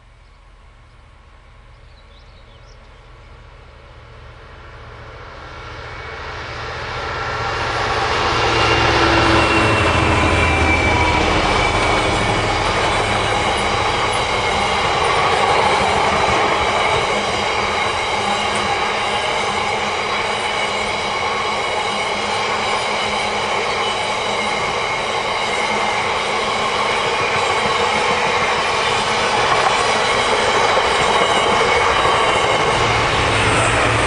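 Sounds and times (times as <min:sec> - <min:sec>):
diesel locomotive passing: 0:00.0 - 0:34.0
freight wagons rumbling on rails: 0:00.7 - 0:34.0.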